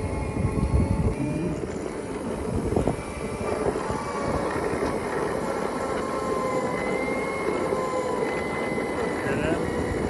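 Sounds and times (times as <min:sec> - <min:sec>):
electric drive whining: 0:00.0 - 0:10.0
wind and tyre noise: 0:00.0 - 0:10.0.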